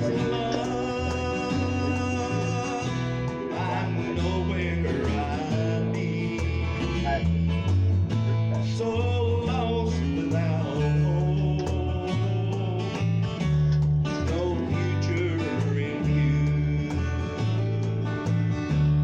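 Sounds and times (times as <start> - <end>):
bass line: 0.0 - 19.0
plucked guitar: 0.0 - 19.0.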